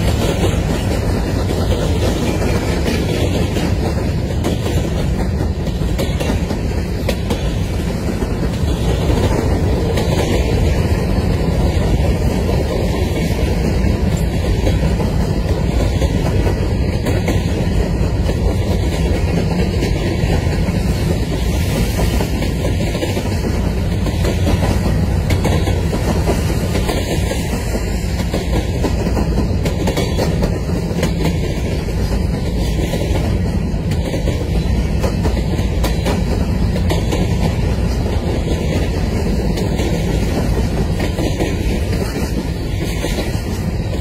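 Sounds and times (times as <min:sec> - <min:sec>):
freight train wheels rumbling on rails: 0:00.0 - 0:44.0.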